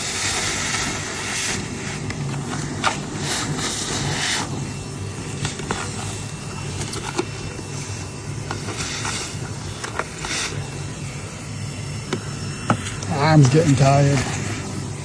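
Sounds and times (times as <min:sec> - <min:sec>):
vacuum motor hum and suction hiss: 0:00.0 - 0:15.0.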